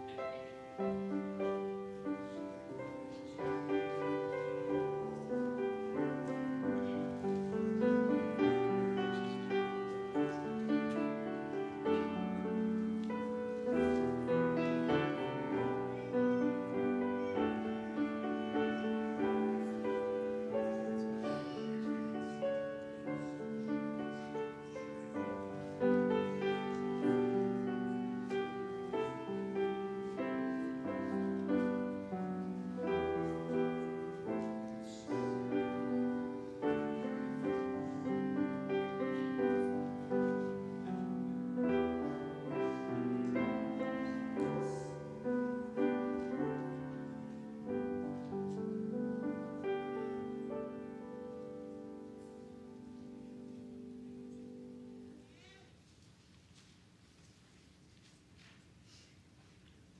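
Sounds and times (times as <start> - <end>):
slow piano music: 0.0 - 55.6.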